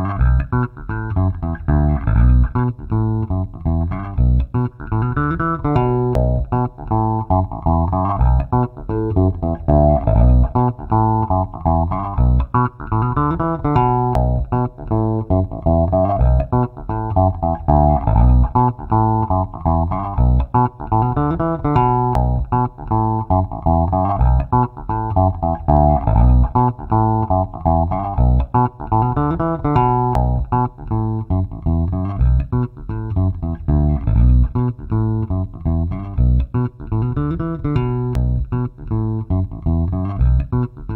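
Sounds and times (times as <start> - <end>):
funk electric bass loop: 0.0 - 40.9.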